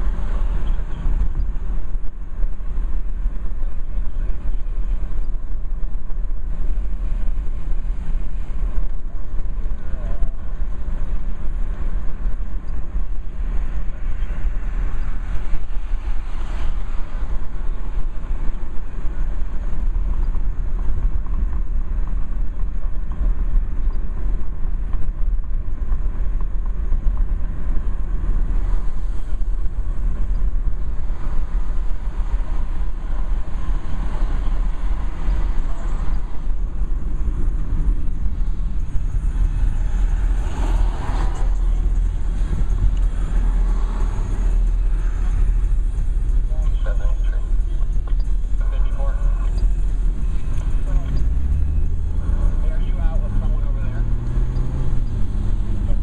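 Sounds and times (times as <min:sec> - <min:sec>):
car cabin road and engine rumble: 0:00.0 - 0:56.0.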